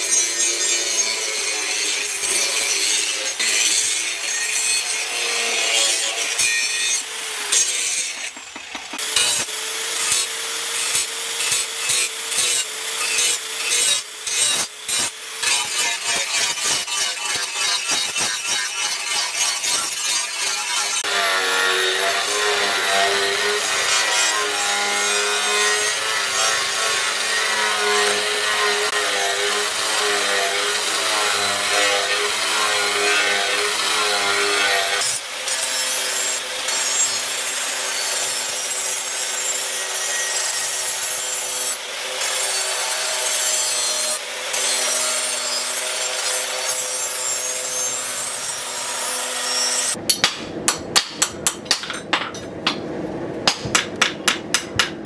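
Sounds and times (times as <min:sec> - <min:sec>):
angle grinder grinding steel: 0:00.0 - 0:50.0.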